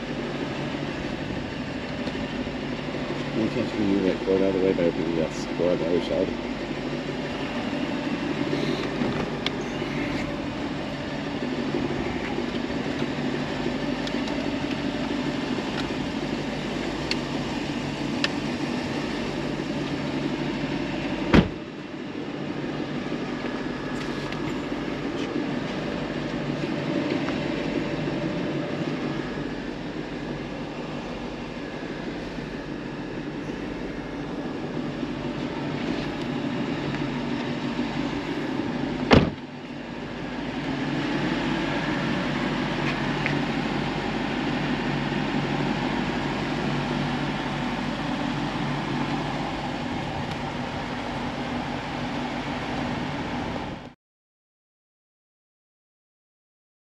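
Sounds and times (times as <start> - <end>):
car engine humming: 0.0 - 53.9.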